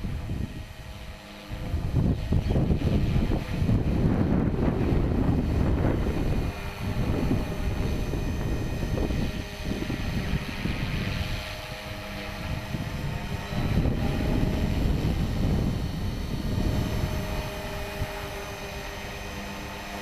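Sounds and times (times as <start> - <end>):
rc helicopter whine: 0.0 - 20.0
wind buffeting microphone: 0.0 - 20.0.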